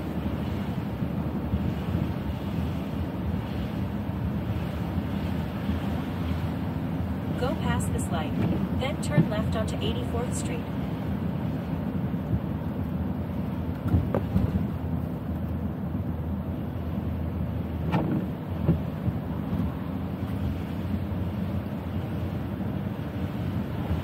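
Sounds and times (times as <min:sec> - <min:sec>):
car driving on wet streets: 0:00.0 - 0:24.0.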